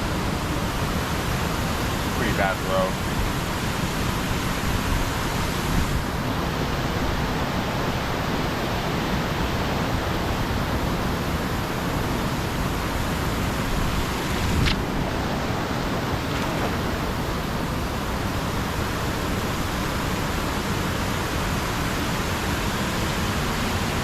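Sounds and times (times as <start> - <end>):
floodwater rushing through spillway: 0.0 - 24.0.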